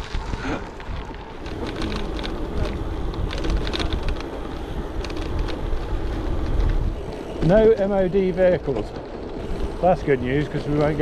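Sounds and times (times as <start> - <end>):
bike tyres crackling on gravel: 0.0 - 11.0
wind buffeting microphone: 0.0 - 11.0.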